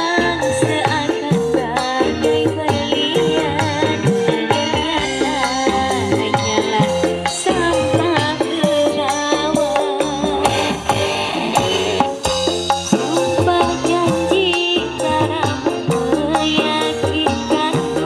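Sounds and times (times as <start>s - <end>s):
music through loudspeakers: 0.0s - 18.0s.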